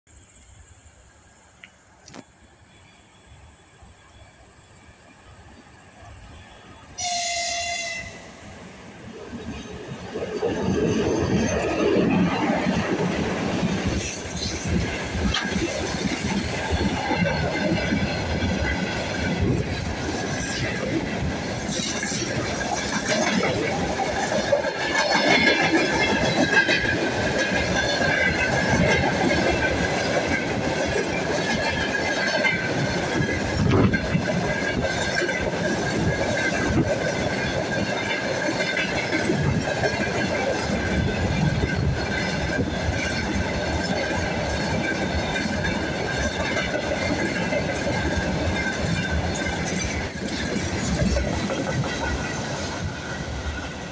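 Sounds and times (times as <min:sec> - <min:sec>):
freight train rumble: 0:00.1 - 0:53.9.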